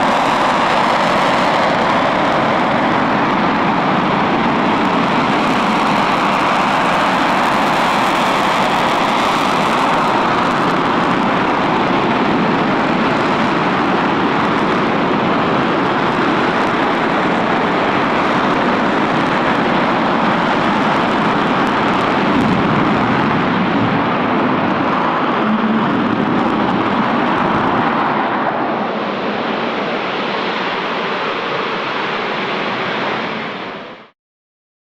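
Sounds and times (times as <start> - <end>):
rocket engine roaring: 0.0 - 34.1.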